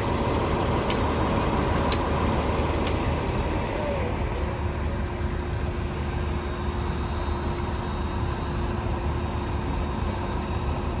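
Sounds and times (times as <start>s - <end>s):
diesel trucks idling: 0.0s - 11.0s
steady hum: 0.0s - 11.0s.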